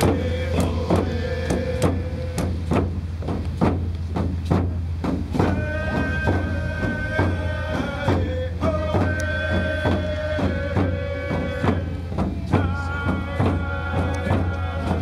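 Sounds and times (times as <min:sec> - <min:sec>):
voices singing long notes: 0:00.0 - 0:02.8, 0:05.4 - 0:15.0
hand drums beating: 0:00.0 - 0:15.0.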